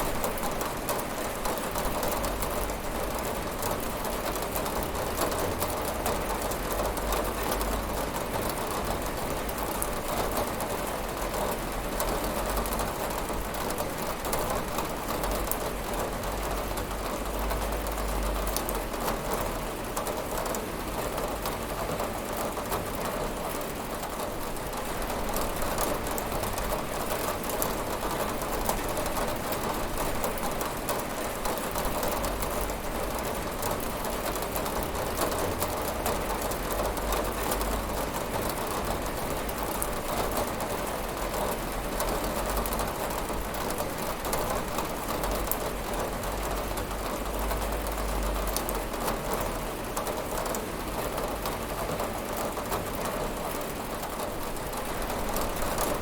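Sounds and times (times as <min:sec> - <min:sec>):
rain patter on window: 0:00.0 - 0:56.0.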